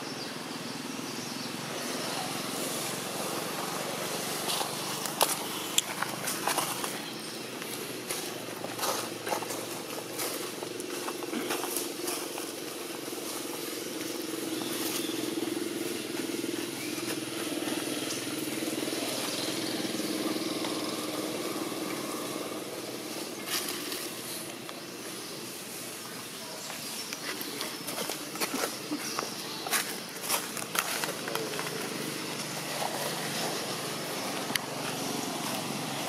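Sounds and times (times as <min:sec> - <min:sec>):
engine hum: 0:00.2 - 0:36.0.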